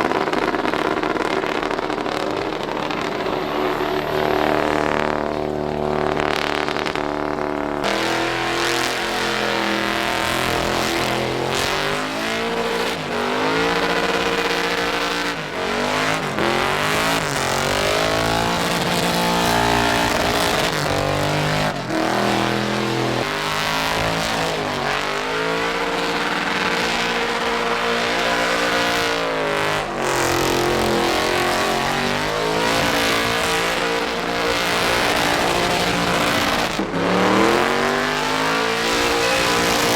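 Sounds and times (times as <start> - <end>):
spinning tires hissing: 0.0 - 39.9
truck engine revving hard: 0.0 - 39.9.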